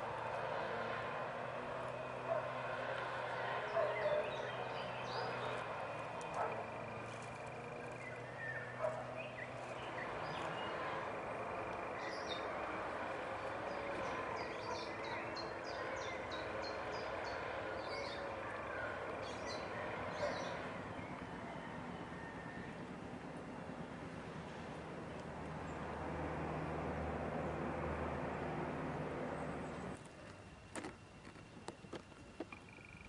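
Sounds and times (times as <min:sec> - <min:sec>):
birds chirping: 0:01.1 - 0:30.4, 0:31.3 - 0:33.0.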